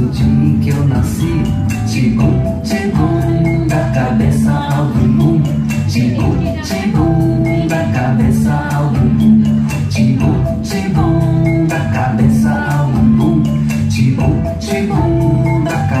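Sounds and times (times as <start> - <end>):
music with percussive beat: 0.0 - 16.0.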